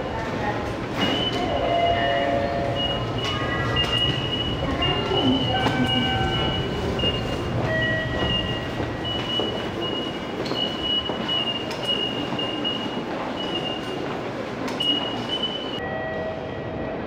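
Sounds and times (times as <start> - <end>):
train rumble: 0.0 - 17.0
high train wheel squeal: 1.0 - 14.0, 14.7 - 16.5.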